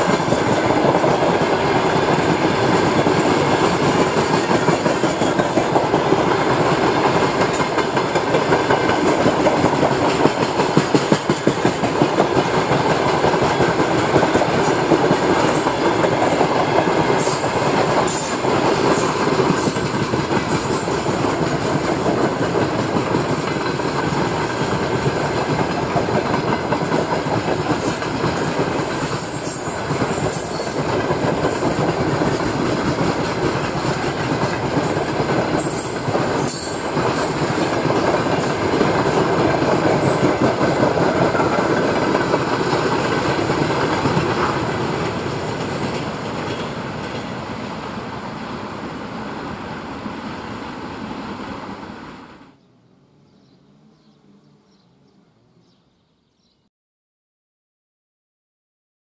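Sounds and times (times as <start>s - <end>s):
wheels clacking over rail joints: 0.0s - 47.8s
steel wheels rumbling on rail: 0.0s - 52.6s.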